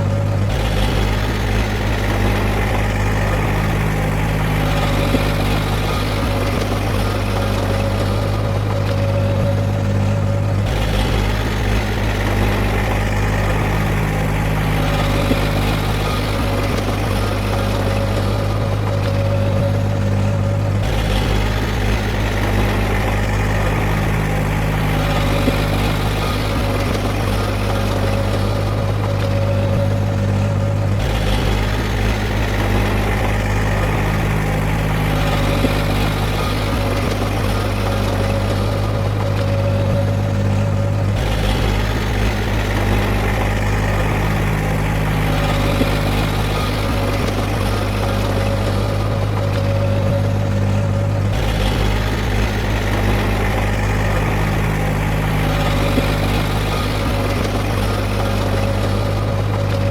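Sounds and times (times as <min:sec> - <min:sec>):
heavy diesel engine droning: 0:00.0 - 0:59.9.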